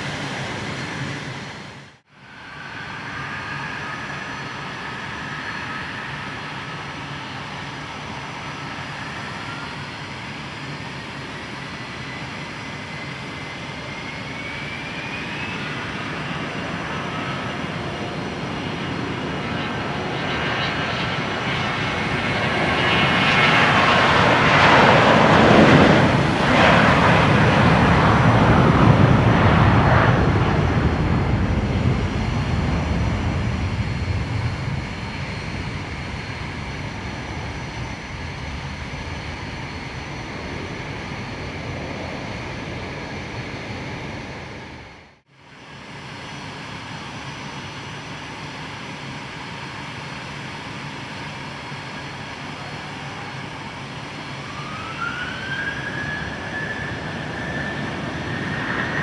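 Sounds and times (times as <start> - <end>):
jet aircraft taking off: 0.0 - 59.0.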